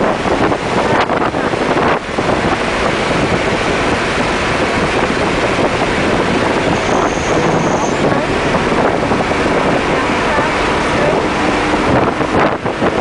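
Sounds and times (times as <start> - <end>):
car engine at speed: 0.0 - 13.0
wind buffeting microphone: 0.0 - 13.0.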